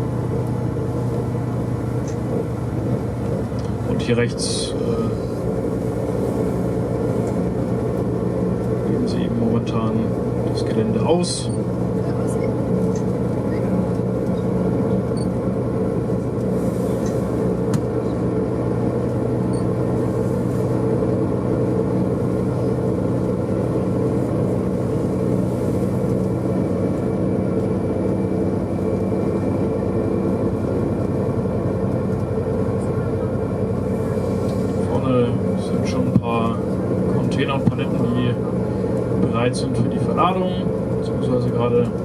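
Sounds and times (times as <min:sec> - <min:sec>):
vehicle engine and rolling noise: 0:00.0 - 0:42.0.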